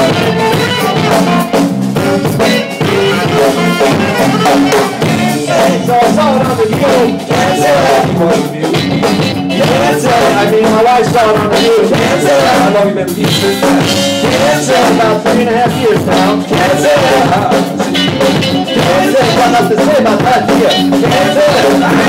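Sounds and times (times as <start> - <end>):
drum kit steady beat: 0.0 - 22.0
pitch-bending melody line: 0.0 - 22.0.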